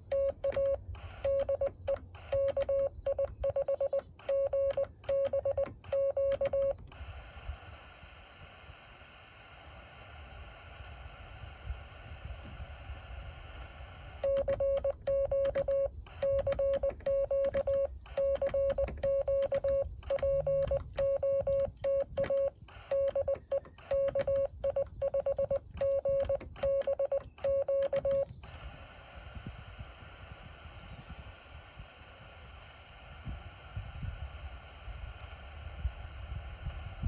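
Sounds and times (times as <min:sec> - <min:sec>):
morse code beeps: 0:00.0 - 0:07.9, 0:09.9 - 0:32.1
radio receiver hiss: 0:00.0 - 0:37.0.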